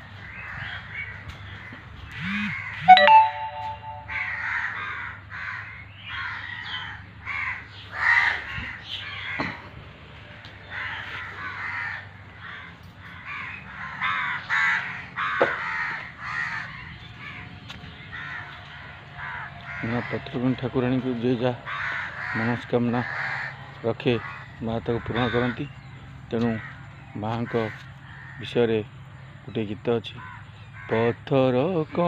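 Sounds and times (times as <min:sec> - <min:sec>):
crows cawing: 0:00.1 - 0:02.8, 0:04.1 - 0:09.7, 0:10.6 - 0:25.8, 0:26.4 - 0:29.3, 0:30.2 - 0:31.2.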